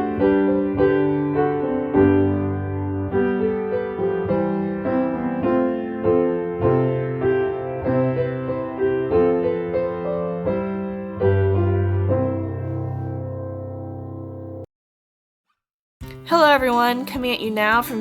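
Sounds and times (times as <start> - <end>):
low piano chord: 0.0 - 14.7
slow gentle piano melody: 0.0 - 14.7.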